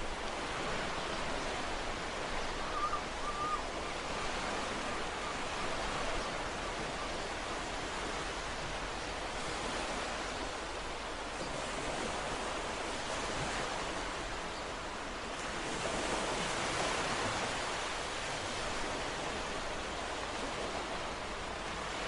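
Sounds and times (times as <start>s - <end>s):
ocean waves breaking on shore: 0.0s - 22.0s.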